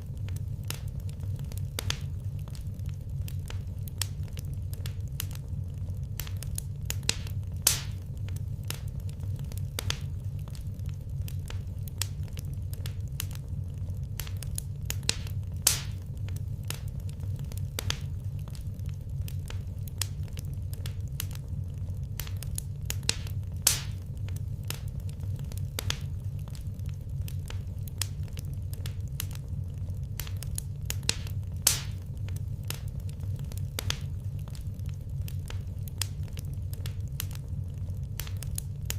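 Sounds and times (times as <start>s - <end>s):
steady low rumble: 0.0s - 38.9s
wood fire crackling: 0.0s - 38.9s.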